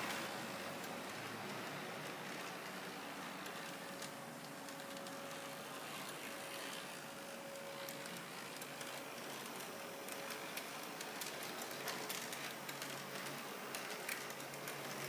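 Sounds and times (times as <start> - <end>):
faint motor hum: 0.0 - 15.0.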